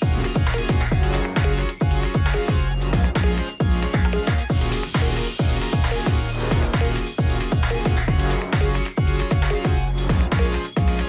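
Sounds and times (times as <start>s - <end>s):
deep kick drums: 0.0s - 11.0s
electronic music: 0.0s - 11.0s.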